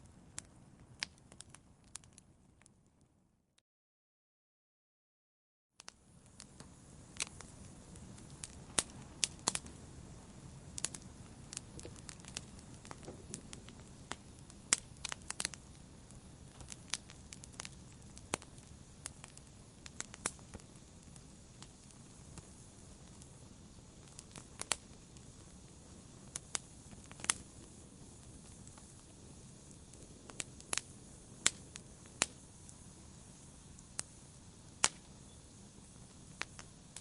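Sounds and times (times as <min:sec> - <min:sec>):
wood fire crackling: 0:00.0 - 0:03.0, 0:05.8 - 0:37.0.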